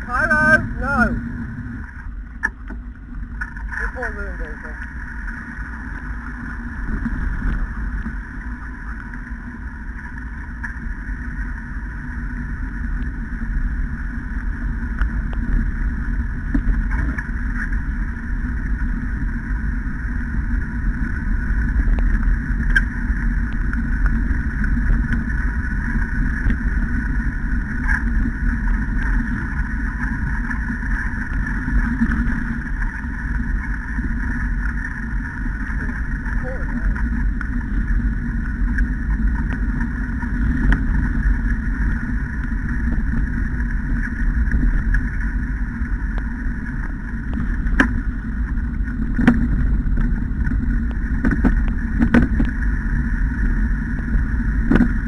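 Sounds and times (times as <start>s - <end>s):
training rig rolling on wet track: 3.0s - 55.0s.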